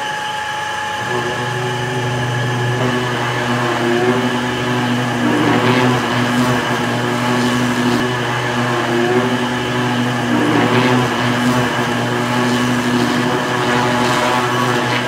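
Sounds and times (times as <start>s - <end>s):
roller machine humming: 0.0s - 15.0s.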